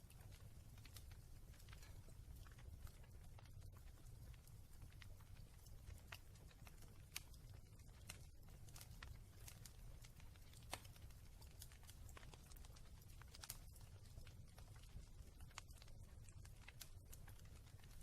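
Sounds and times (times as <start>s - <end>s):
fire low rumble: 0.0s - 18.0s
wood fire crackling: 0.0s - 18.0s.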